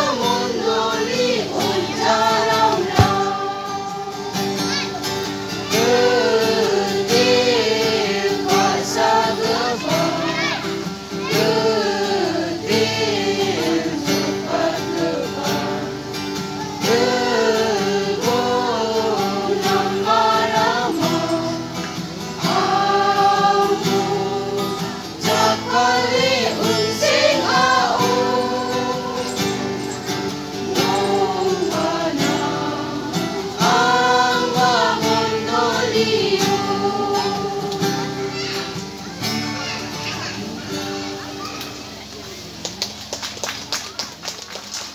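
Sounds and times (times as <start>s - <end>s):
women singing in unison: 0.0s - 4.6s, 5.7s - 38.3s
strummed acoustic guitar: 0.0s - 43.0s.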